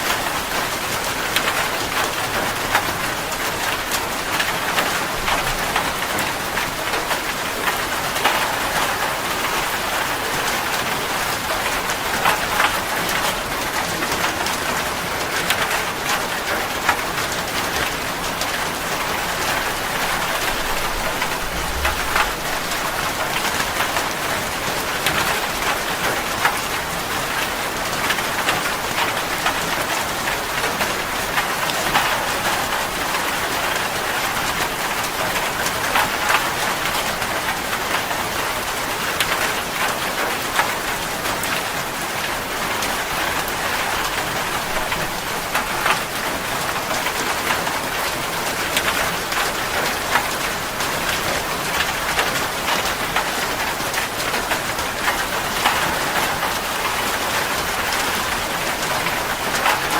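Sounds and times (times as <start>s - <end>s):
rain hissing on a surface: 0.0s - 59.9s
close raindrop ticks: 1.3s - 59.9s.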